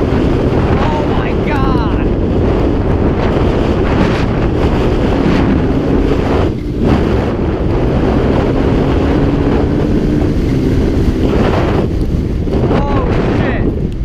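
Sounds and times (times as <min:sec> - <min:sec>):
dirt bike engine running: 0:00.0 - 0:14.0
wind buffeting microphone: 0:00.0 - 0:14.0.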